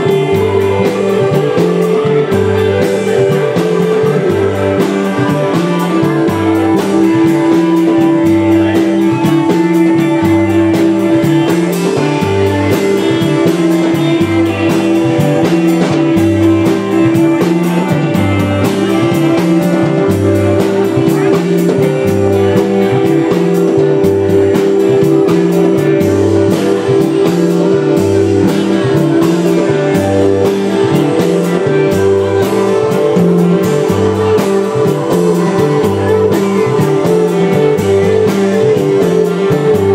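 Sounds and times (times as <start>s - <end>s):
electric guitars: 0.0s - 39.9s
repeating bass line: 0.0s - 39.9s
steady drum beat: 0.0s - 39.9s.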